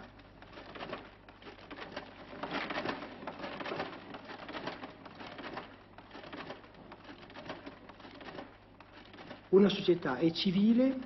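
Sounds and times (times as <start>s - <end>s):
duplicator clicking and rustling: 0.0s - 11.0s.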